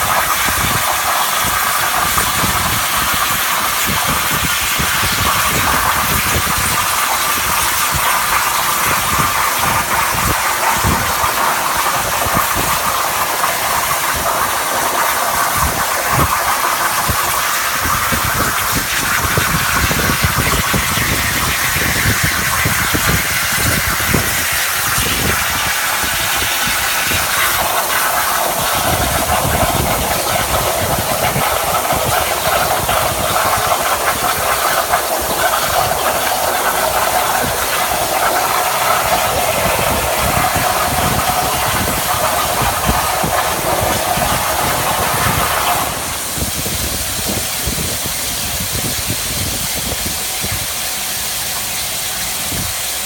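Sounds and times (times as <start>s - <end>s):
plasma cutter arc hissing: 0.0s - 53.0s.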